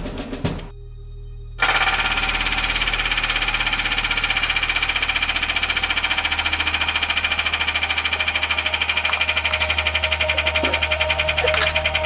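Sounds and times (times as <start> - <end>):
hydraulic press pump pulsing: 1.6 - 12.0.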